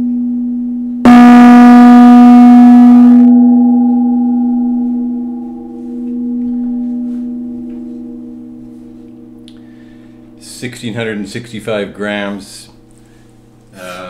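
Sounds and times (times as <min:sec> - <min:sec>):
gong ringing: 0:00.0 - 0:12.5.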